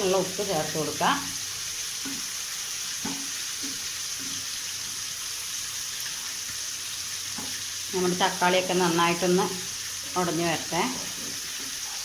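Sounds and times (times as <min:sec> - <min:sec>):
masala sizzling in a frying pan: 0:00.0 - 0:12.0.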